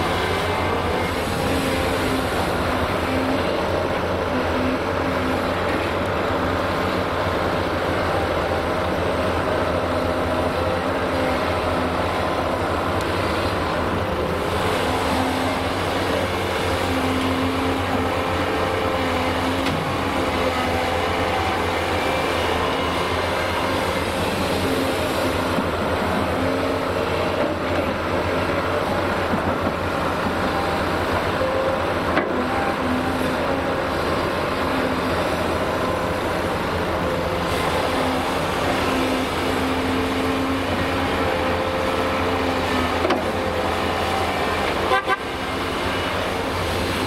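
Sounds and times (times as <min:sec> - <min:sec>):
excavator diesel engine and hydraulics: 0:00.0 - 0:47.0.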